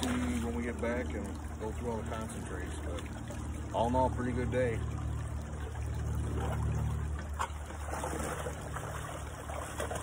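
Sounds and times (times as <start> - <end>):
creek water trickling over stones: 0.0 - 10.0
splashing wading steps: 0.0 - 10.0.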